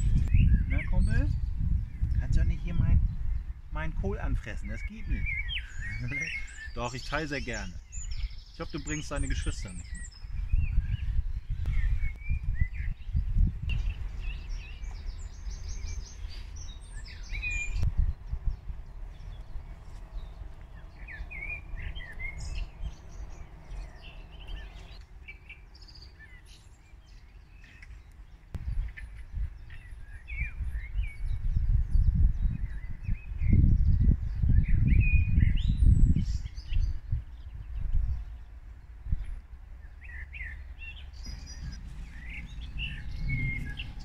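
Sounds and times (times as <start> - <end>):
small birds chirping: 0.0 - 44.0
wind rumble on microphone: 0.0 - 44.0.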